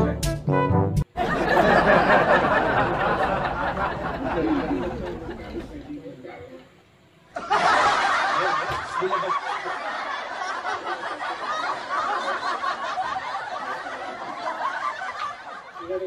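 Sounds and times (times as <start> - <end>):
crowd laughing: 1.2 - 6.0, 7.3 - 16.0.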